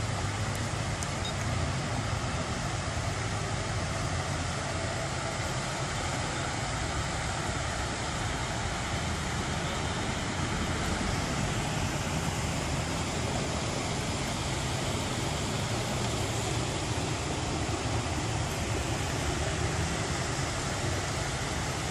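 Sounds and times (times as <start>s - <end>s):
flood water rushing: 0.0s - 21.9s
low rumble of water: 0.0s - 21.9s.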